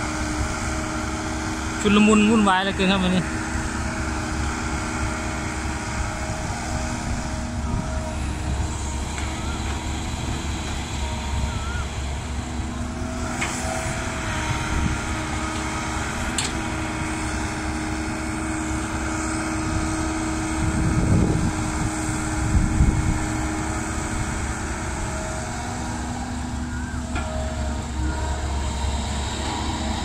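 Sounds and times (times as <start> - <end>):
diesel engines droning: 0.0 - 30.0.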